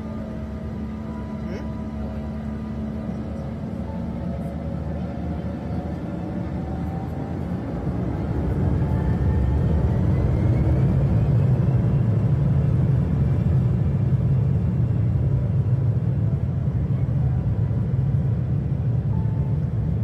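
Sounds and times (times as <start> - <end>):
jet cabin rumble: 0.0 - 20.0.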